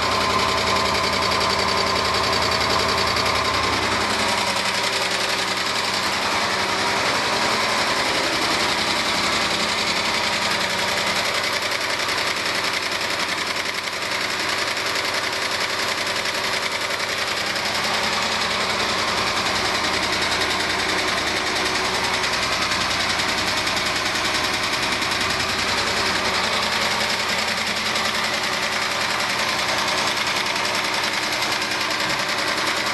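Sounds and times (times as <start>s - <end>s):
car engine running: 0.0s - 32.9s
fast ticking engine clatter: 0.0s - 32.9s.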